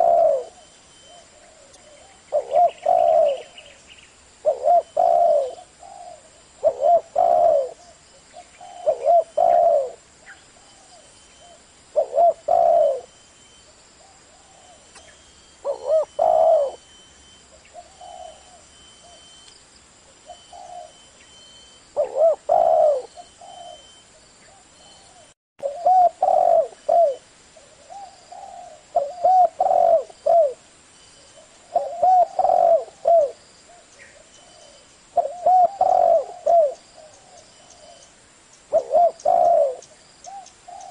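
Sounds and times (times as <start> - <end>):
dove cooing: 0.0 - 3.8, 4.4 - 13.2, 14.0 - 19.4, 20.2 - 21.1, 22.0 - 30.7, 31.3 - 38.1, 38.7 - 40.9.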